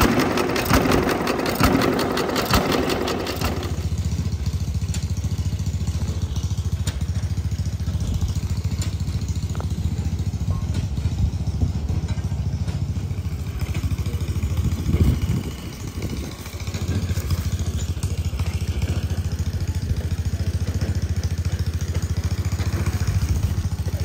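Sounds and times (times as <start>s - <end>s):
engine chugging steadily: 0.0s - 24.0s.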